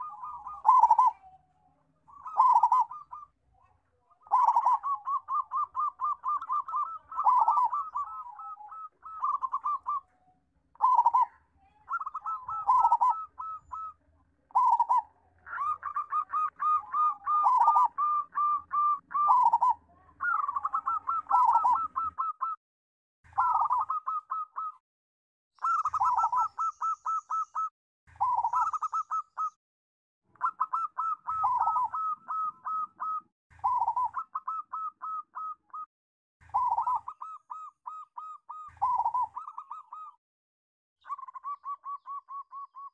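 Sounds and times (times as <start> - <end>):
dove cooing: 0.0 - 10.1, 10.7 - 22.6, 23.3 - 24.8, 25.6 - 29.6, 30.4 - 40.2, 41.0 - 42.9.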